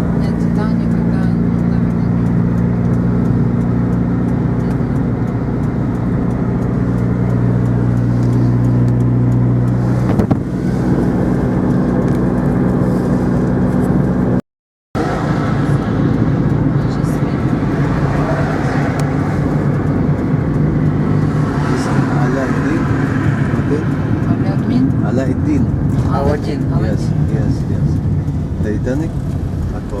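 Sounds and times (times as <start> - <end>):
car engine running: 0.0 - 14.4, 15.0 - 30.0
road noise inside car: 0.0 - 14.4, 15.0 - 30.0.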